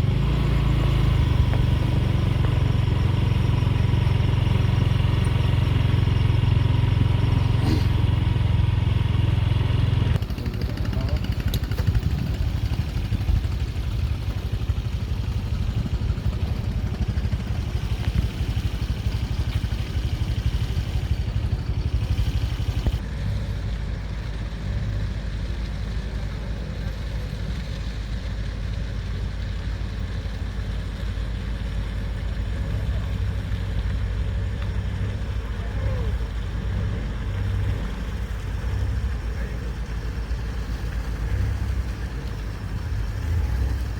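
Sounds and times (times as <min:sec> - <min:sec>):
engine rumble: 0:00.0 - 0:43.9.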